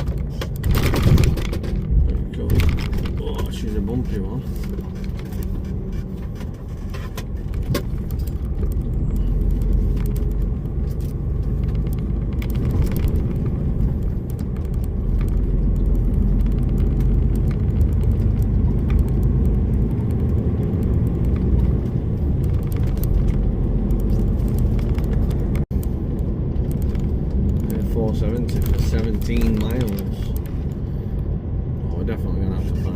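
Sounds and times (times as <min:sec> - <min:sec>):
lorry engine and road rumble: 0:00.0 - 0:32.9.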